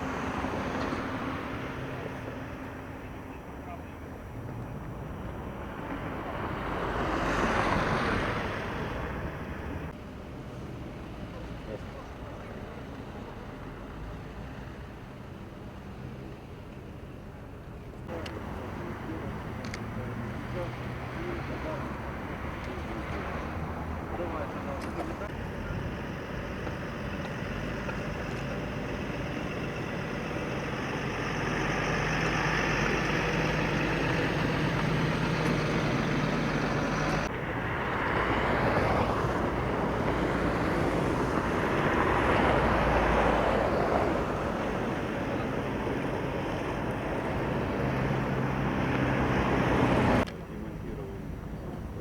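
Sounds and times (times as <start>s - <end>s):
heavy engines running: 0.0s - 52.0s.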